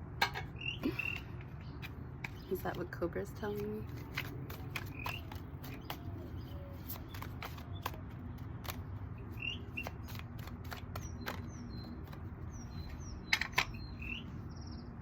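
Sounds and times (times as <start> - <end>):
small birds chirping: 0.5 - 15.0.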